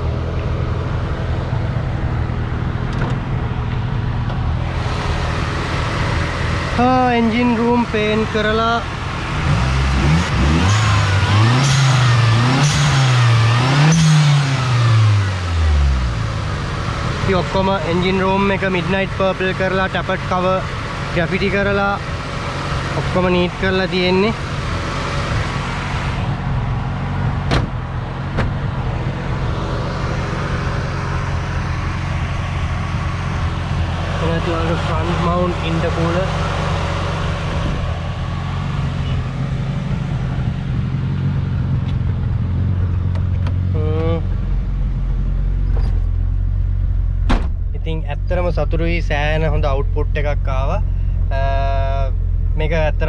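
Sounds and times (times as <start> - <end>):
turbocharged engine revving: 0.0 - 46.0.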